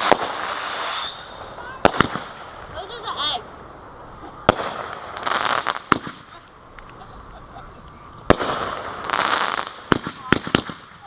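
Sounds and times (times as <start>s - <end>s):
fireworks banging: 0.0s - 11.0s
fireworks hissing crackle: 0.0s - 11.0s.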